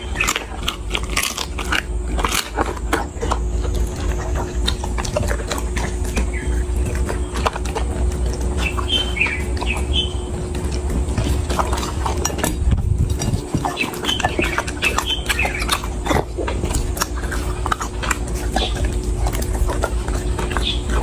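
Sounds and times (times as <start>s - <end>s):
dog chewing wetly: 0.0s - 21.0s.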